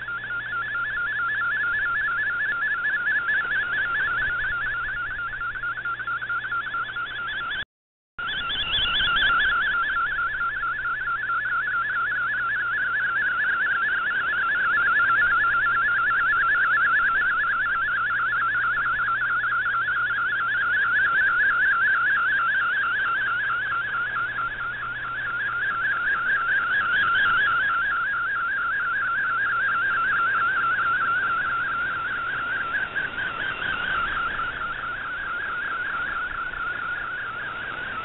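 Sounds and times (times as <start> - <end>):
rapidly warbling radio tone: 0.0 - 7.6, 8.2 - 38.0.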